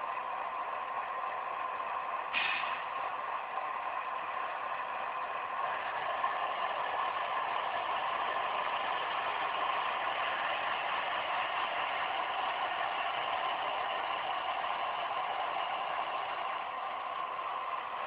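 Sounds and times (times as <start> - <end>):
diesel engine idling through speaker: 0.0 - 18.0.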